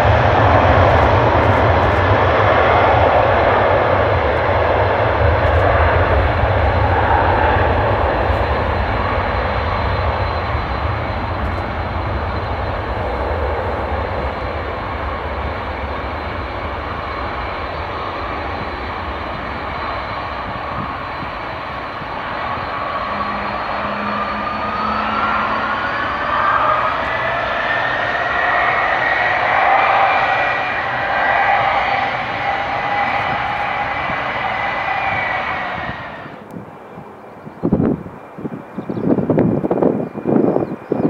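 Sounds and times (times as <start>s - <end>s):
faint rising whine: 0.0s - 38.1s
rushing noise: 0.0s - 40.4s
engine drone: 0.0s - 40.5s.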